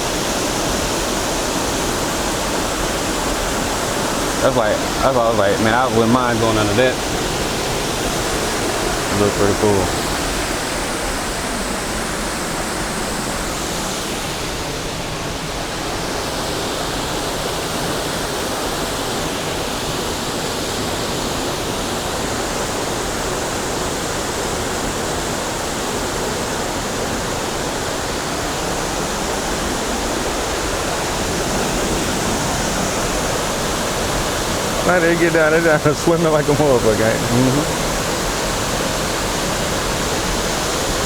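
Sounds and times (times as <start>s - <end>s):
waterfall pouring and splashing: 0.0s - 41.0s.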